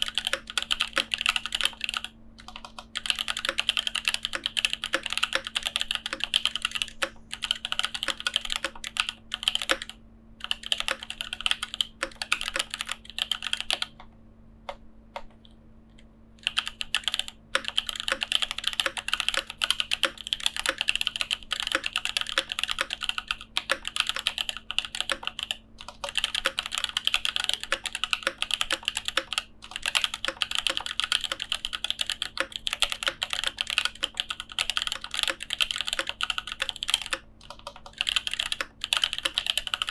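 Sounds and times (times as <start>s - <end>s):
mechanical keyboard typing: 0.0s - 14.1s, 16.4s - 39.9s.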